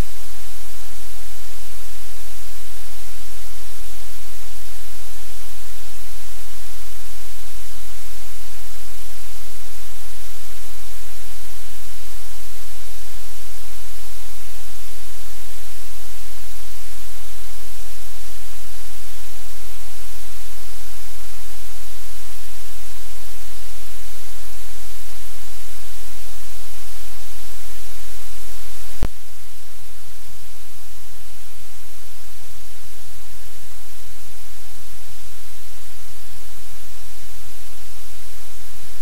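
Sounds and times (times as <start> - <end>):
static hiss: 0.0 - 39.0.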